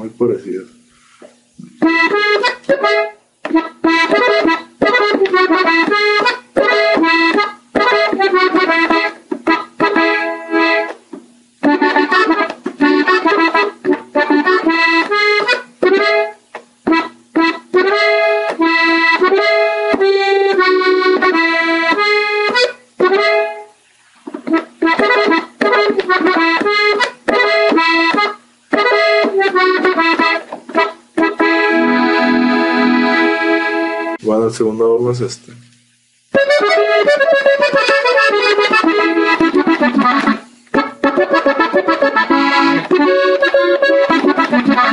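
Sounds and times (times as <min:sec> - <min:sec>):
button accordion played slowly: 0:01.8 - 0:23.8, 0:24.4 - 0:34.2, 0:36.3 - 0:44.9.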